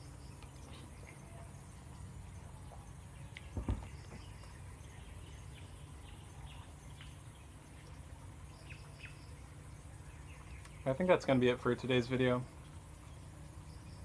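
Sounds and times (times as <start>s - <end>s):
bird chirps: 0.0s - 11.4s
low steady rumble: 0.0s - 14.0s.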